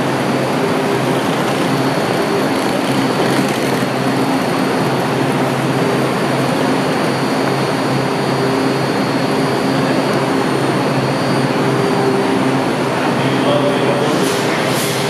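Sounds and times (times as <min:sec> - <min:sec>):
subway train wheels on rail: 0:00.0 - 0:15.0.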